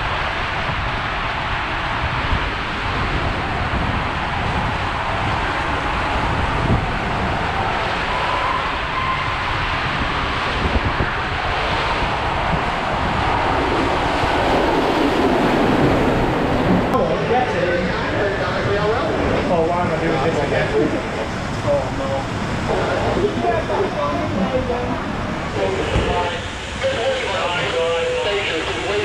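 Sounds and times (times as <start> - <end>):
water rushing through slide tube: 0.0 - 29.0.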